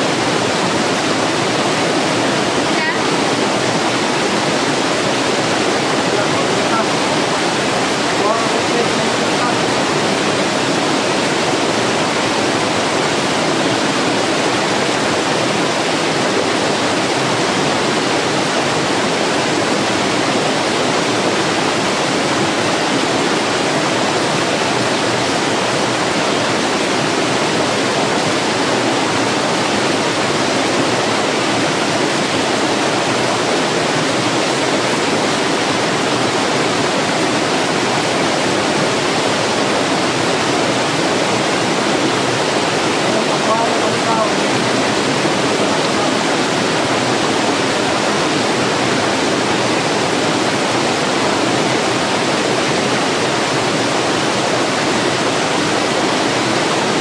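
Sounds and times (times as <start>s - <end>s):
stream cascading over boulders: 0.0s - 57.0s.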